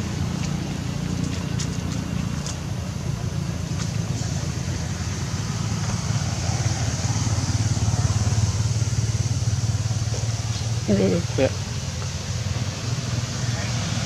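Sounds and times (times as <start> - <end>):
vehicle engine humming: 0.0 - 14.0
steady high hiss: 1.8 - 14.0.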